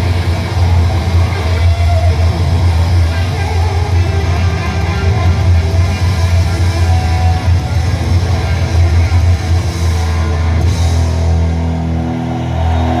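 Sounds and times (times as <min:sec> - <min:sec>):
rock music through car speakers: 0:00.0 - 0:13.0.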